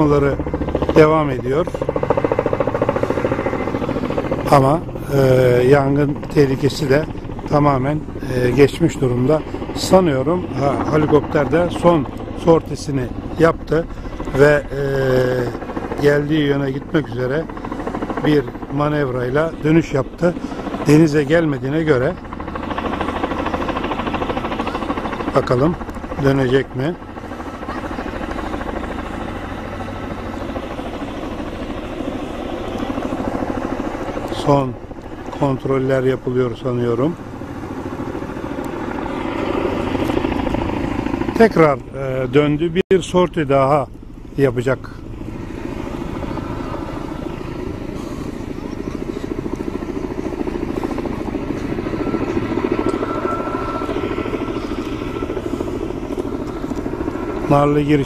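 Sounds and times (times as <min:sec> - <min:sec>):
helicopter rotor chopping: 0:00.0 - 0:58.0.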